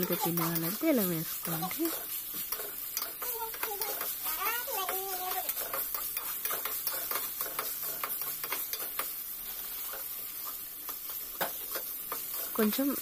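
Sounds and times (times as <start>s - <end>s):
chicken sizzling in oil: 0.0s - 13.0s
metal spoon scraping pan: 0.0s - 13.0s.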